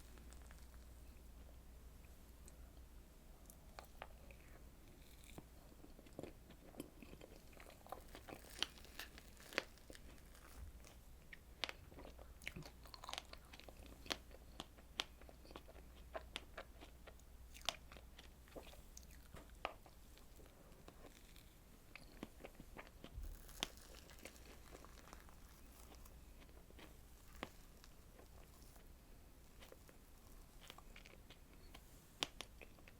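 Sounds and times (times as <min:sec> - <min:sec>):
crunchy chewing: 0:03.5 - 0:32.9.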